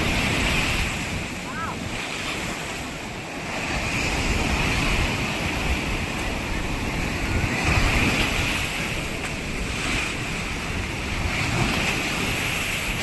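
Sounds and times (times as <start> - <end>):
sea surf washing onto beach: 0.0 - 13.0
wind buffeting microphone: 0.0 - 13.0.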